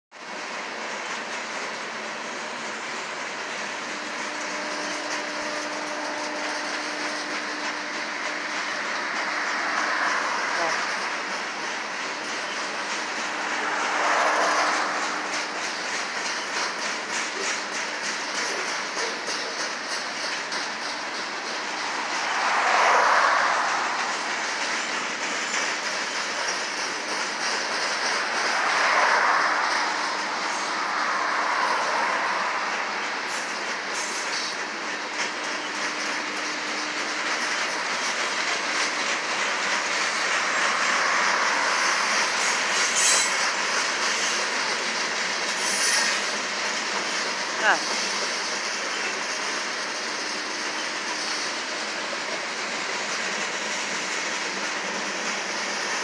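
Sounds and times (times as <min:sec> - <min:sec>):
freight train rolling past: 0:00.2 - 0:56.0
wheels clicking on rails: 0:00.2 - 0:56.0.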